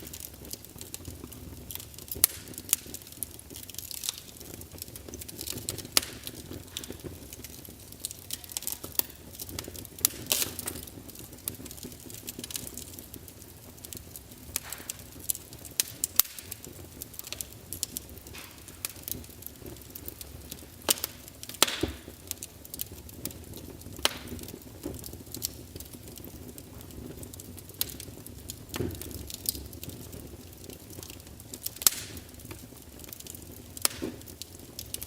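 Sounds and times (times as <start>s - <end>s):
log fire crackling and popping: 0.0s - 35.0s.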